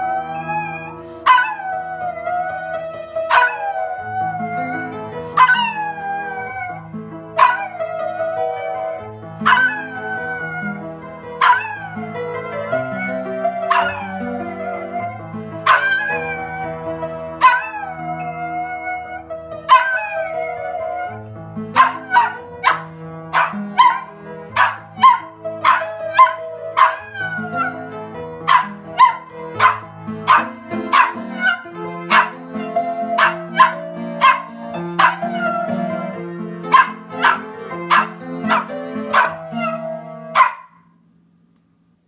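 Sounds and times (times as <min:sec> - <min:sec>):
dog howling: 0:00.0 - 0:40.6
upright piano playing: 0:00.0 - 0:41.3.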